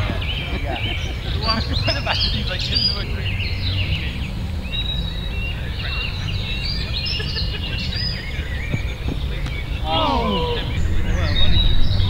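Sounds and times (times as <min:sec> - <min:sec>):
small birds chirping and whistling: 0:00.0 - 0:12.0
steady low rumble: 0:00.0 - 0:12.0.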